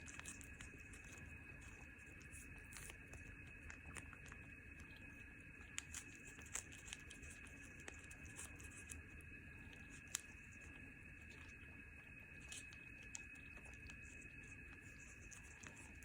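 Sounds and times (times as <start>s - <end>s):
cat eating a treat: 0.0s - 16.0s.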